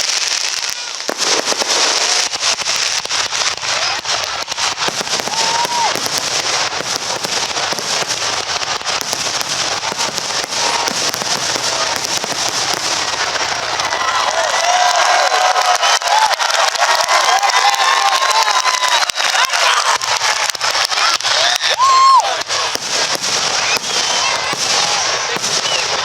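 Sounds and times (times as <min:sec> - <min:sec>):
fireworks hiss: 0:00.0 - 0:16.3, 0:17.9 - 0:26.0
fireworks crackling and popping: 0:00.0 - 0:26.0.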